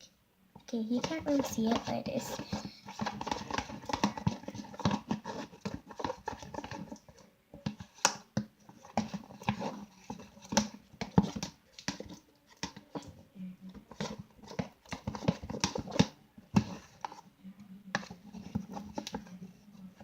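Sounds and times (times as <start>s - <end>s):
slime being stirred: 0.0s - 20.0s.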